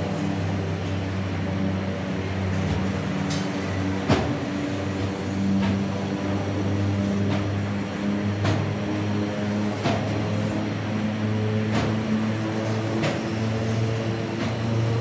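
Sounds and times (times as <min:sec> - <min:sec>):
train wheels droning on rails: 0:00.0 - 0:15.0.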